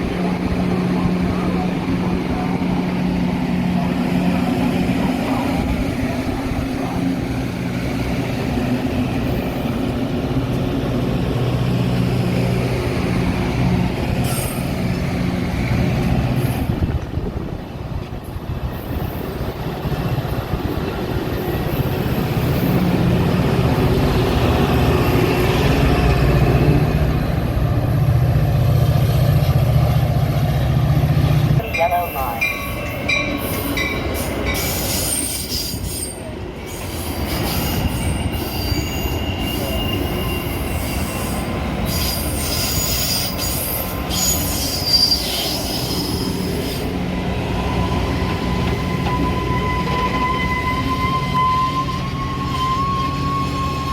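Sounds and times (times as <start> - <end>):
commuter train drone: 0.0 - 53.9.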